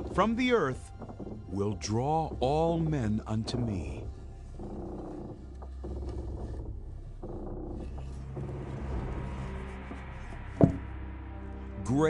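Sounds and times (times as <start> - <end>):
dark background music: 0.0 - 12.0.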